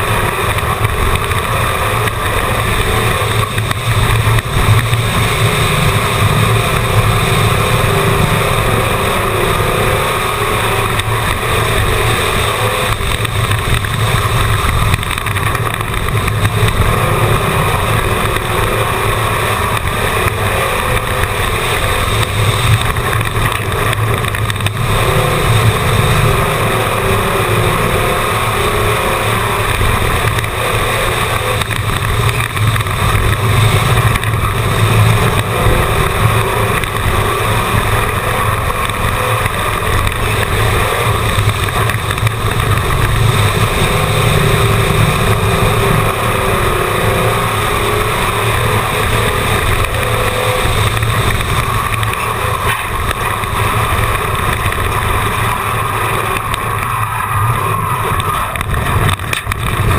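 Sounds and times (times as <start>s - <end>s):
race car engine droning: 0.0s - 59.9s
road and wind noise: 0.0s - 59.9s.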